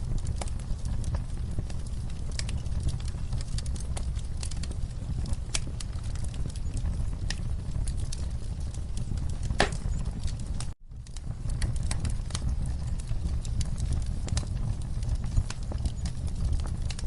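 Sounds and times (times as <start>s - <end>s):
low fire rumble: 0.0s - 17.0s
wood fire popping and snapping: 0.0s - 17.0s.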